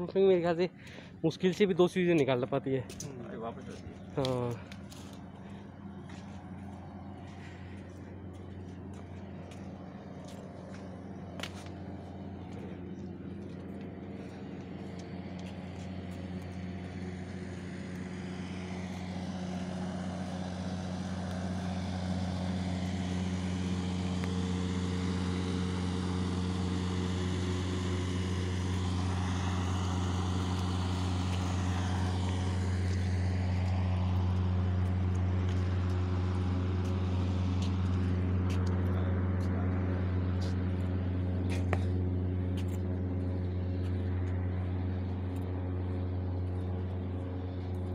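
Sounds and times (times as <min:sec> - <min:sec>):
low machine hum: 0:00.0 - 0:47.9.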